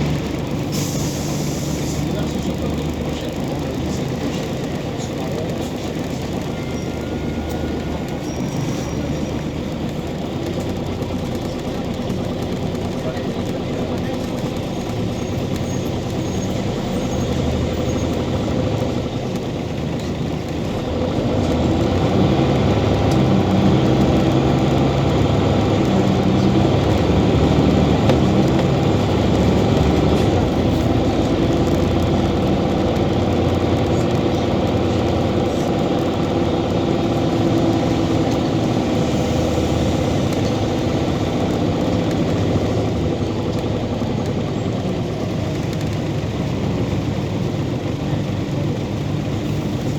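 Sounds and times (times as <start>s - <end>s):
bus engine accelerating: 0.0s - 49.9s.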